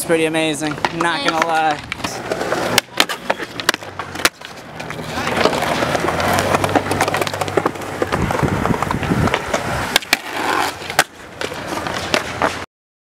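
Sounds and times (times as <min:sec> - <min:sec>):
skateboard rolling: 0:00.0 - 0:12.7
skateboard clacks: 0:00.2 - 0:12.6.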